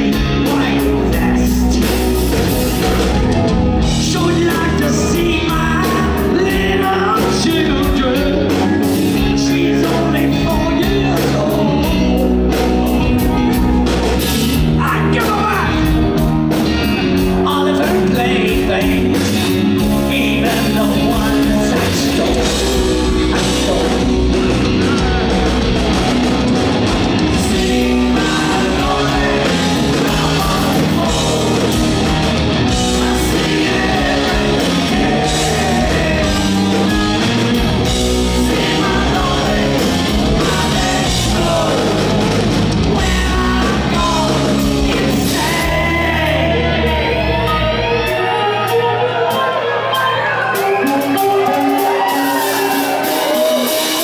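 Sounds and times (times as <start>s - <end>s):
man singing: 0.0s - 2.3s, 3.8s - 13.6s, 14.6s - 16.0s, 17.2s - 25.4s, 27.2s - 52.4s
live hard rock band playing: 0.0s - 54.0s.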